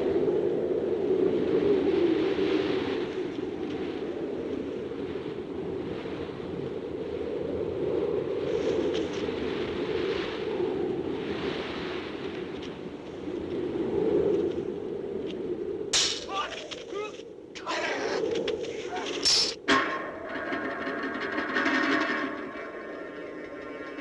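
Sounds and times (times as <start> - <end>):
strong gusting wind: 0.0 - 24.0.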